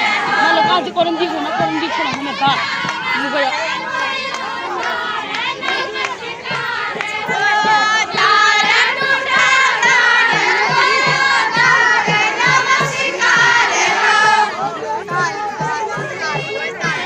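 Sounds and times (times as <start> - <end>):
steady low beat: 0.0 - 17.0
women singing in unison: 0.0 - 17.0.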